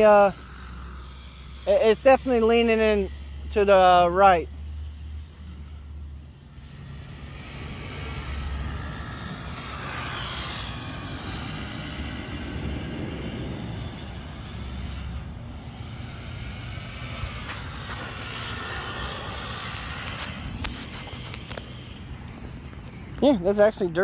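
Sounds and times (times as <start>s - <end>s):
radio-controlled car motor whining: 0.0s - 23.4s.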